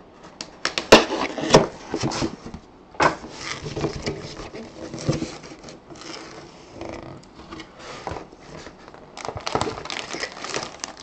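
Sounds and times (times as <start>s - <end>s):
cardboard scraping and rubbing: 1.0s - 2.5s, 3.1s - 10.8s.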